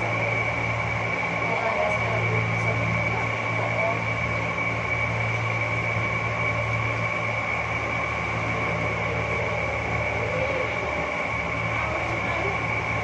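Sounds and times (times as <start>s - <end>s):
high constant whine: 0.0s - 13.0s
low electrical hum: 0.0s - 13.0s.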